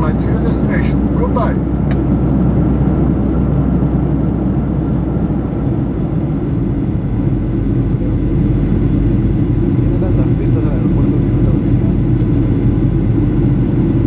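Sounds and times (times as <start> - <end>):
faint steady whine: 0.0 - 14.0
jet engines droning: 0.0 - 14.0
low rumble: 0.0 - 14.0.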